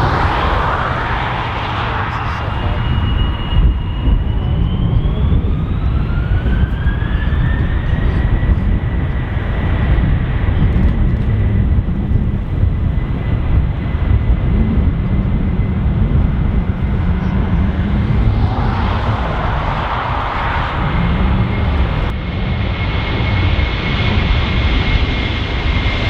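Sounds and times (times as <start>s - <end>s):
loud low engine rumble: 0.0s - 14.1s, 15.2s - 22.1s
jet engine whine: 0.0s - 26.0s.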